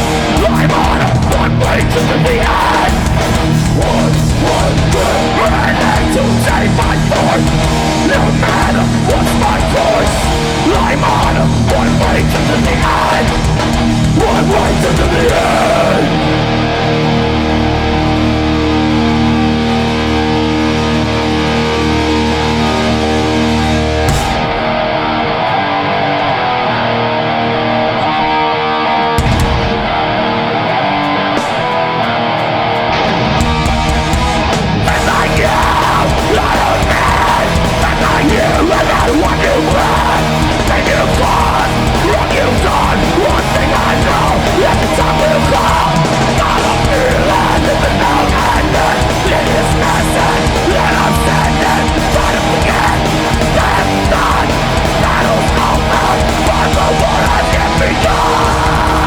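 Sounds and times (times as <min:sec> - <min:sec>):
bass guitar: 0:00.0 - 0:59.0
distorted electric guitars: 0:00.0 - 0:59.0
drums: 0:00.0 - 0:59.0.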